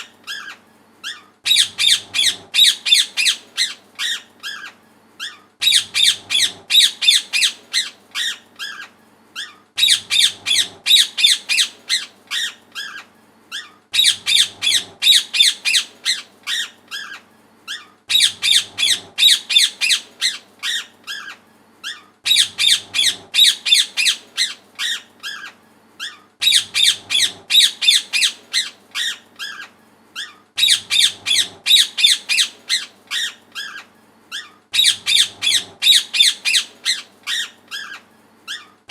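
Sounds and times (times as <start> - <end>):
parrot squawking: 0.0 - 38.8.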